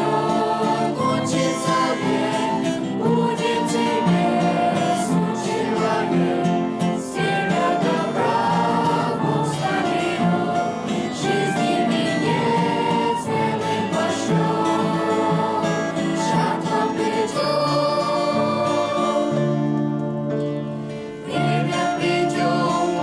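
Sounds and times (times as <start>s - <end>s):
choir singing a hymn: 0.0s - 23.0s
instrumental accompaniment: 0.0s - 23.0s.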